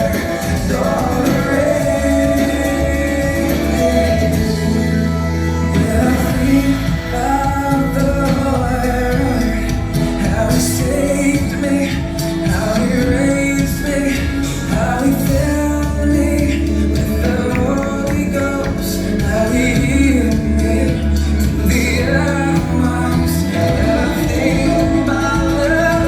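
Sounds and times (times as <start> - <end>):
song with singing and backing: 0.0 - 26.0.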